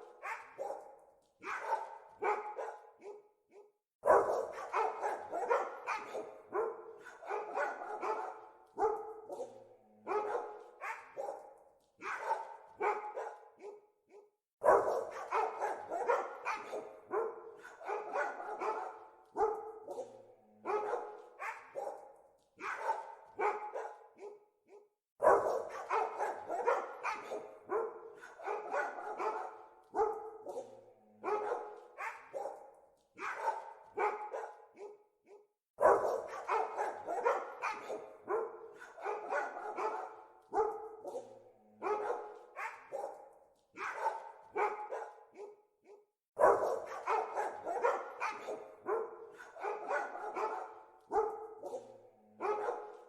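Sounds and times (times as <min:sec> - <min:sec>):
dogs barking: 0:00.0 - 0:53.0.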